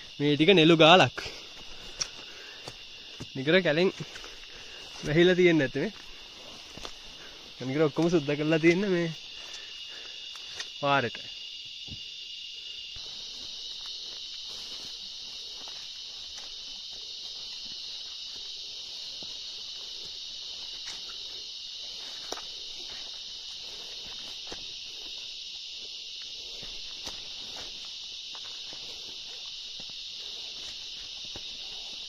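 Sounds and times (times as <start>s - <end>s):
insects chorus: 0.0s - 32.0s
faint footsteps: 1.2s - 10.7s, 13.0s - 32.0s.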